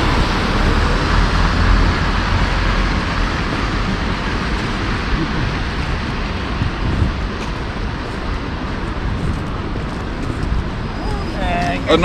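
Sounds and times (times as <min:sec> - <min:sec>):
traffic rumble and hiss: 0:00.0 - 0:12.0.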